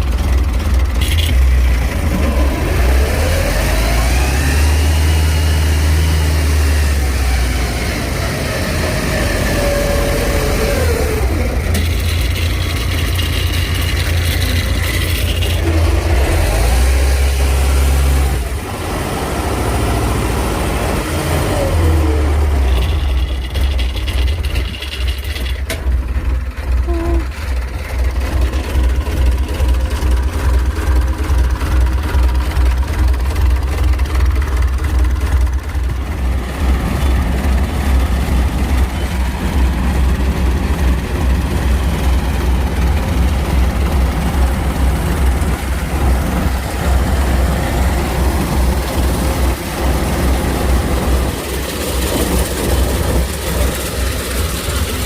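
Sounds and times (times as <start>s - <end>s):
diesel engine rumbling: 0.0s - 55.0s.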